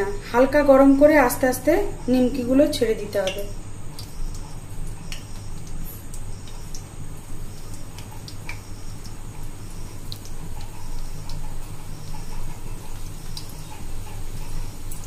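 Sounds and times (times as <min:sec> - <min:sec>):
dough frying in oil: 0:00.0 - 0:15.0.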